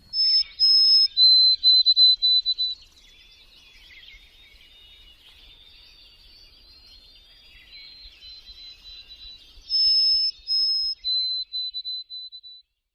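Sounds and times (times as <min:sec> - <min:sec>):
birds chirping and twittering: 0:00.0 - 0:12.9.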